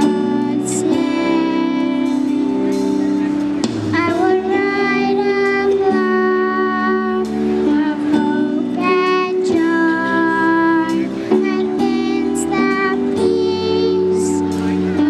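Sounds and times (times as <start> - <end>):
children's choir singing: 0.0 - 2.7, 3.9 - 15.0
instrumental accompaniment: 0.0 - 15.0.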